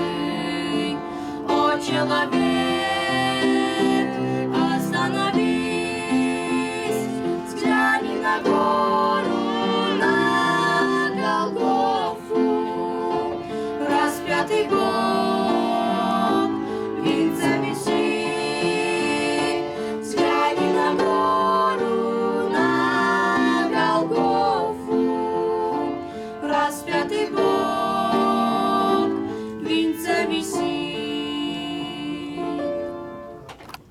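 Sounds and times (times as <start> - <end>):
hymn sung with instruments: 0.0 - 33.8.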